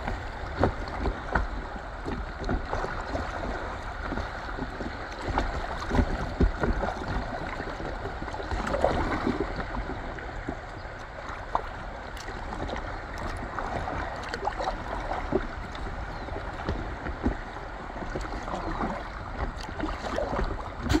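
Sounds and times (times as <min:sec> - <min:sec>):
low knocks and thumps on hull: 0:00.0 - 0:21.0
river current rushing and gurgling: 0:00.0 - 0:21.0.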